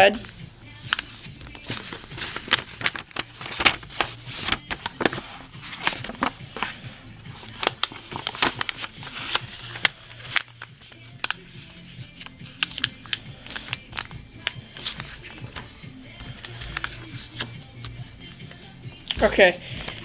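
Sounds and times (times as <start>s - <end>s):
paper folding and crinkling: 0.2s - 20.0s.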